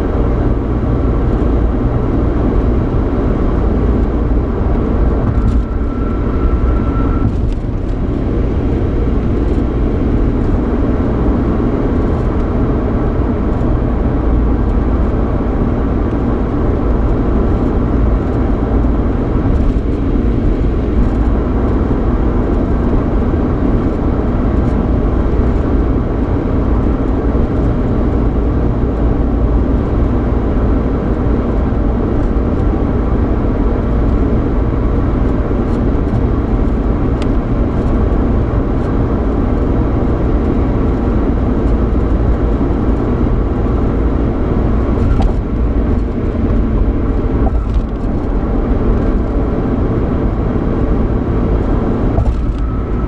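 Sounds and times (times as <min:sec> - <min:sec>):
car cabin road noise and engine hum: 0:00.0 - 0:53.0.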